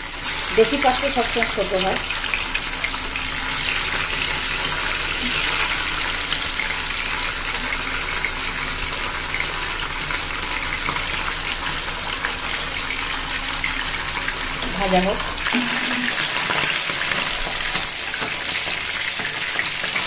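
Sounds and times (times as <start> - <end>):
fish frying in oil: 0.0 - 20.0.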